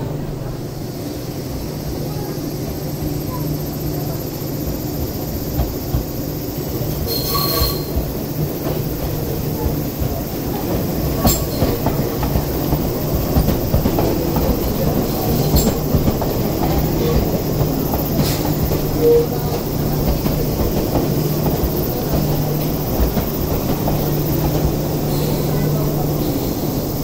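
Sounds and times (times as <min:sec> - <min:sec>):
electric train rolling past: 0:00.0 - 0:27.0.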